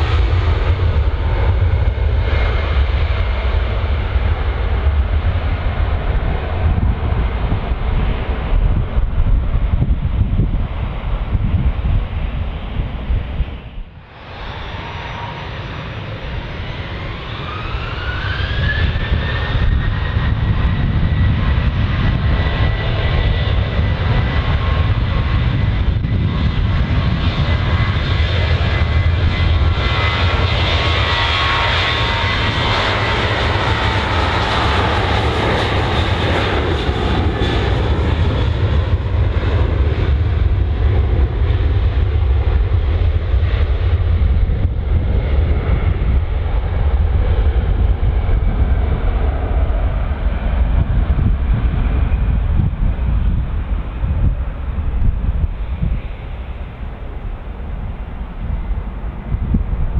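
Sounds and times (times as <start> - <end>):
jet airliner engines roaring: 0.0 - 59.9.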